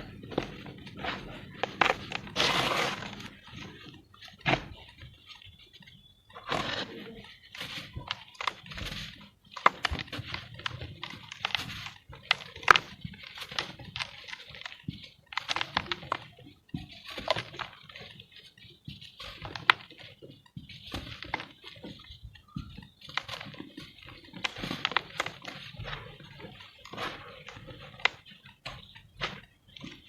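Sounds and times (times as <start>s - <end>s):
cement crumbling and crunching: 0.0s - 18.4s, 19.1s - 30.0s.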